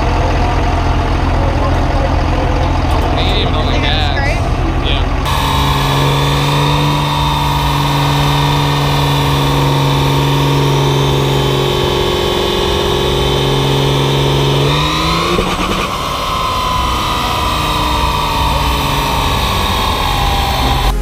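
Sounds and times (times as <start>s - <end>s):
diesel engine running under load: 0.0s - 21.0s
high whine: 0.0s - 21.0s.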